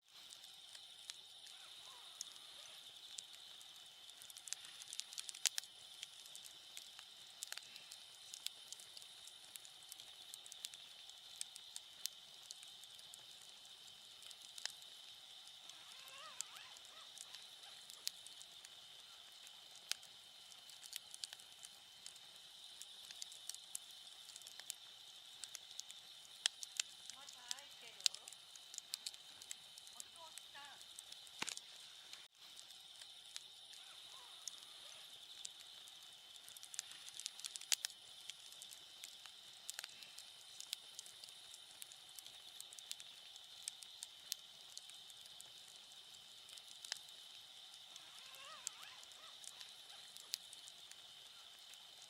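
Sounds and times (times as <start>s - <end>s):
high-pitched background hiss: 0.0s - 52.0s
wood fire crackling: 0.0s - 52.0s.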